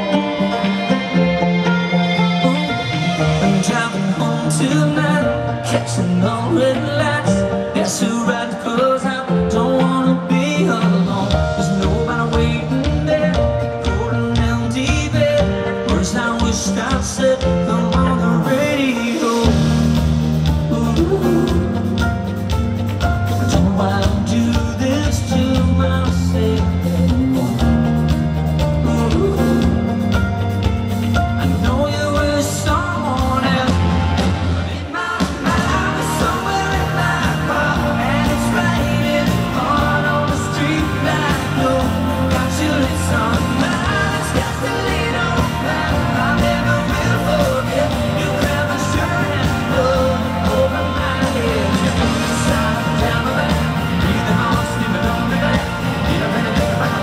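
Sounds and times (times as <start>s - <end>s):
lead vocal singing: 0.0s - 30.4s, 31.3s - 57.0s
bass guitar: 0.0s - 57.0s
drums: 0.0s - 57.0s
electric guitar: 0.0s - 57.0s.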